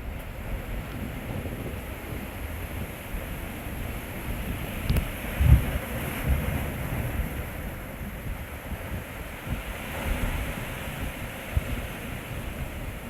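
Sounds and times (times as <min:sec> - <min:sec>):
sea waves washing on shore: 0:00.0 - 0:13.0
wind gusting on microphone: 0:00.0 - 0:13.0.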